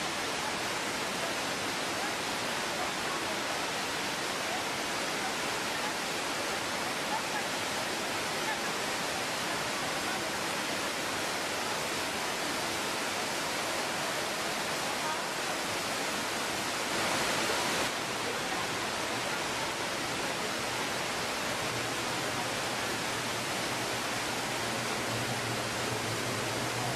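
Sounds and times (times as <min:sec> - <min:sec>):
waterfall rushing hiss: 0:00.0 - 0:26.9.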